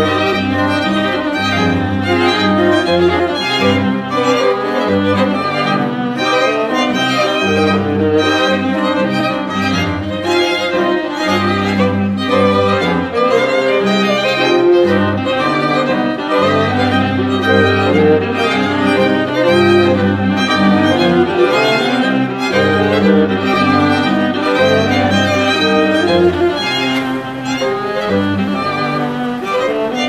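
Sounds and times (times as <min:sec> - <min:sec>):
bowed strings: 0:00.0 - 0:30.0.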